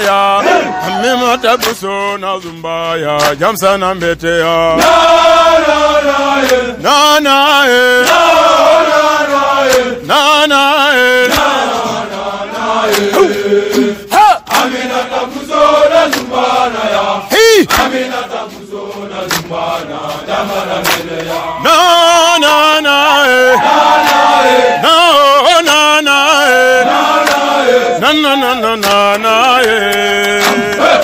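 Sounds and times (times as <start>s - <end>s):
voices chanting a song: 0.0s - 31.0s.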